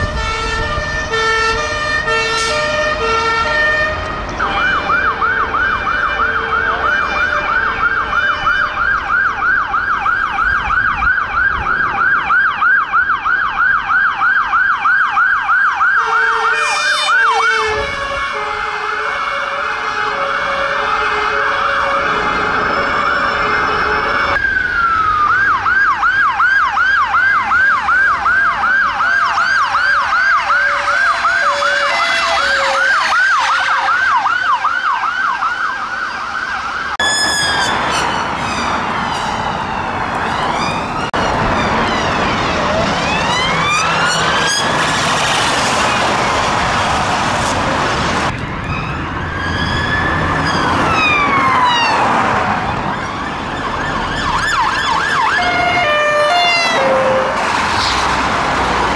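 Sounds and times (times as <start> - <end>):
ambulance siren yelping: 0.0 - 47.0, 48.2 - 57.8
police sirens wailing: 0.0 - 58.9
traffic noise: 0.0 - 58.9.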